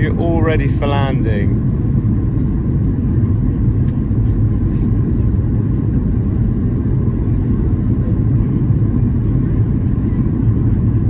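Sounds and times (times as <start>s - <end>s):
airplane cabin low rumble: 0.0s - 11.0s.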